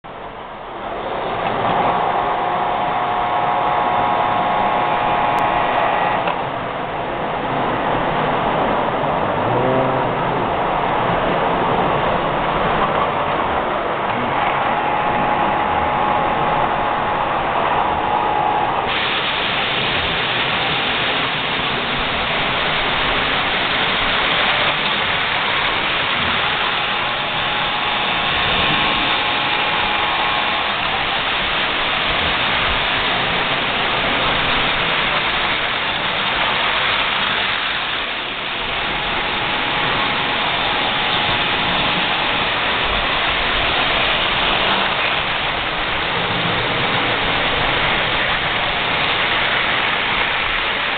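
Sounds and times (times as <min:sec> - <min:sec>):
motor hum: 0:00.1 - 0:50.9.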